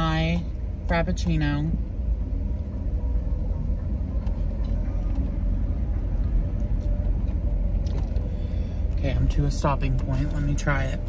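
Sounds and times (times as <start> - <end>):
car engine and road rumble: 0.0 - 11.0
faint steady hum: 0.0 - 11.0.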